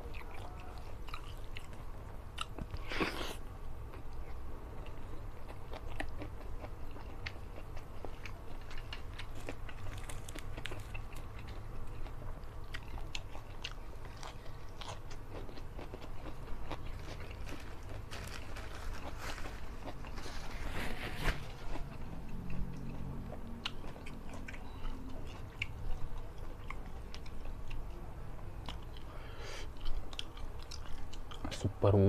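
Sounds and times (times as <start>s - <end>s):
man chewing food: 0.0s - 31.7s
steady low hum: 0.0s - 32.0s.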